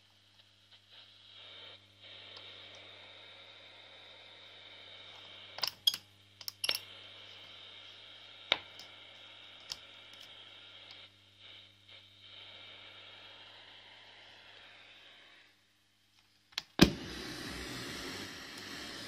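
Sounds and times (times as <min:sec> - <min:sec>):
radio static hiss with hum: 0:00.0 - 0:19.0.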